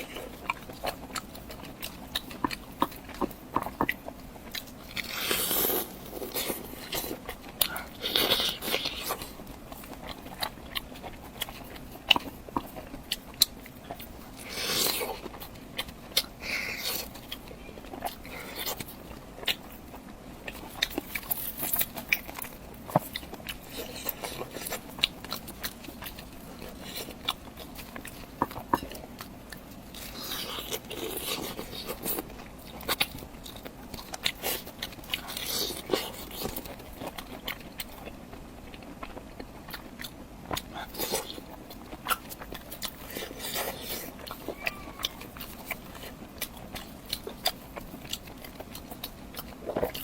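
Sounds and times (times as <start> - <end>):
crunchy chewing: 0.0 - 50.0.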